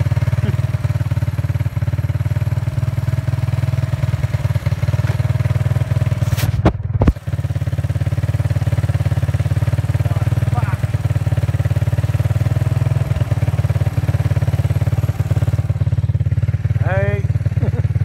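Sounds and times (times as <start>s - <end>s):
atv engine pulsing: 0.0s - 18.0s.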